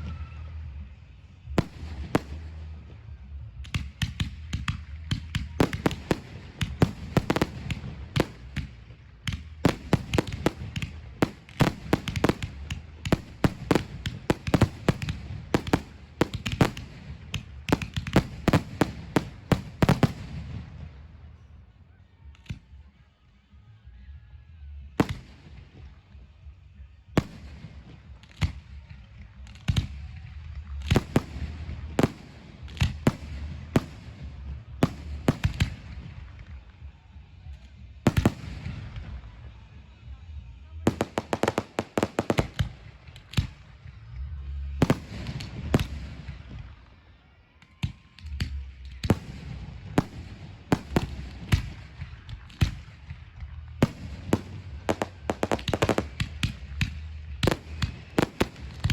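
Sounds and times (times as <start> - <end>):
fireworks bangs: 0.0 - 21.3, 27.1 - 47.0, 48.2 - 58.9.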